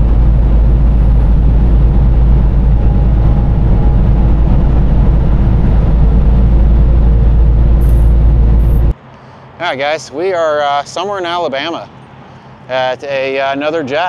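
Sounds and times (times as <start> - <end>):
truck driving at highway speed: 0.0 - 14.0.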